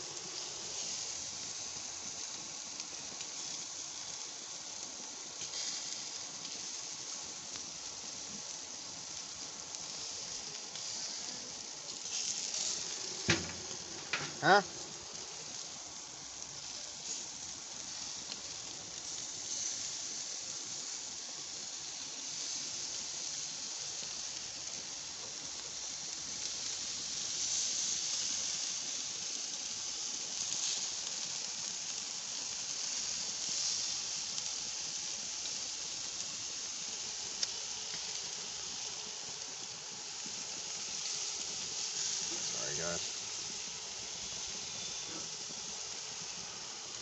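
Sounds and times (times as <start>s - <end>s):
chicken sizzling on grill: 0.0s - 47.0s.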